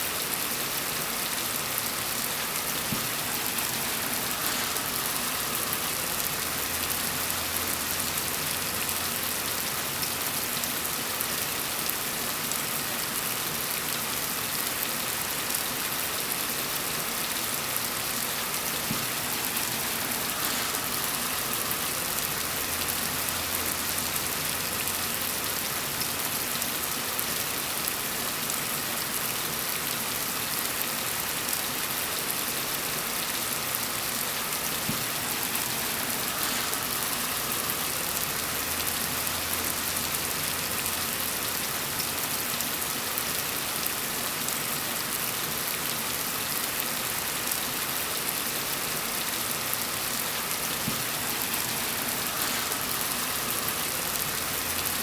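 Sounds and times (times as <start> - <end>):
gentle rain falling: 0.0 - 55.0.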